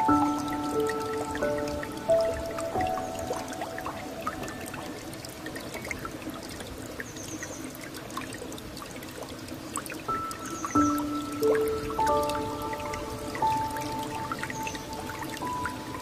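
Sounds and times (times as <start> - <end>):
soft held music tone: 0.0 - 16.0
water dripping: 0.0 - 16.0
water trickling and pouring: 0.0 - 16.0.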